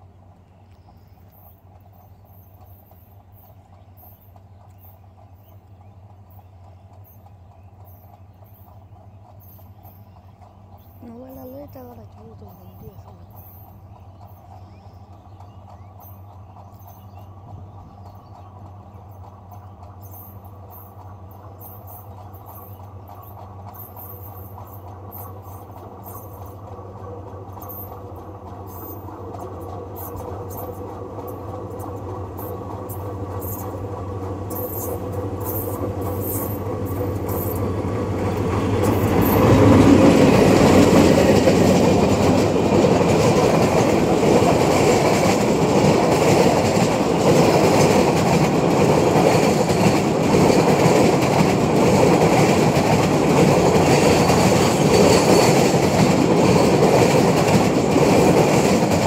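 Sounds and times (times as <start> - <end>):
diesel locomotive engine: 0.0 - 59.0
train wagons rolling on rails: 0.0 - 59.0.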